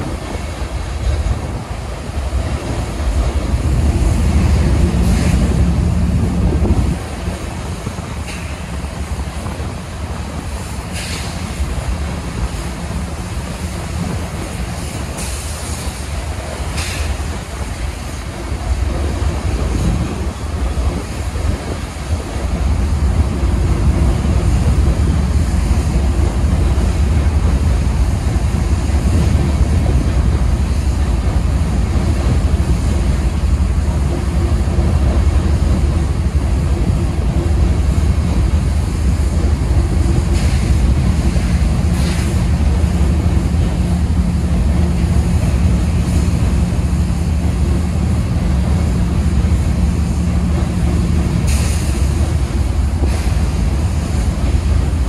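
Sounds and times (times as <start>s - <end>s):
freight train rumbling past: 0.0s - 55.0s
wind buffeting microphone: 0.0s - 55.0s.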